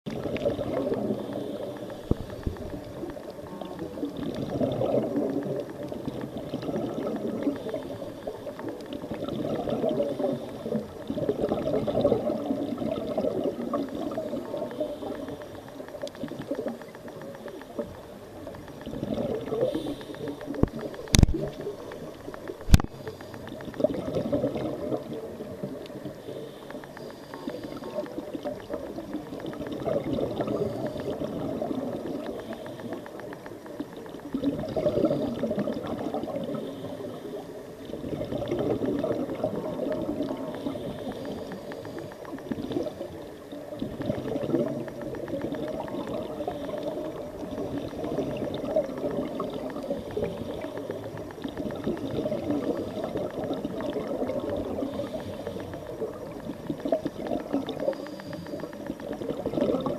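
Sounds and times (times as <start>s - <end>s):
exhaled air bubbling underwater: 0.1s - 59.9s
sharp clicks: 0.1s - 59.9s.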